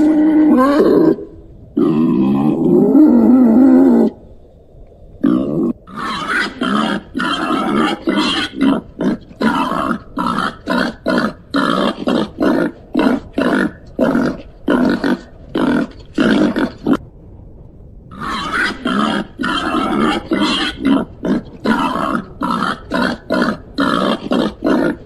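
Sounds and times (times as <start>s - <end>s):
pig grunting: 0.0s - 4.2s, 5.2s - 17.0s, 18.1s - 25.0s.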